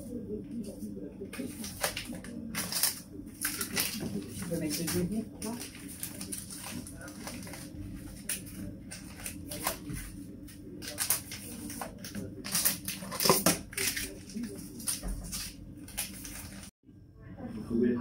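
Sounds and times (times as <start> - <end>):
household items rustling and clicking: 1.3 - 10.1, 10.8 - 16.7.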